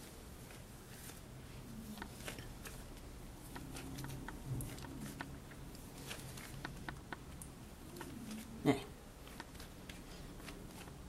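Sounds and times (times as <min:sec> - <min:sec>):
hands kneading sticky dough: 0:00.0 - 0:11.0.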